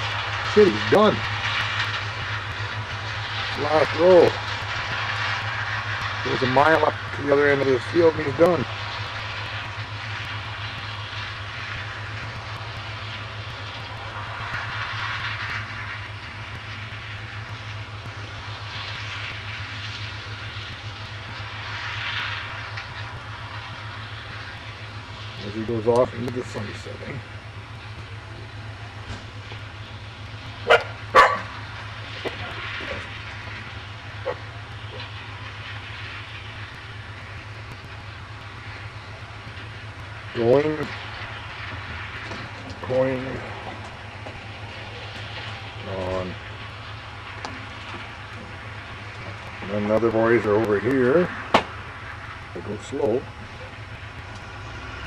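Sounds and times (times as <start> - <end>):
distant combine harvester drone: 0.0 - 55.0
hissing rush: 0.0 - 55.0.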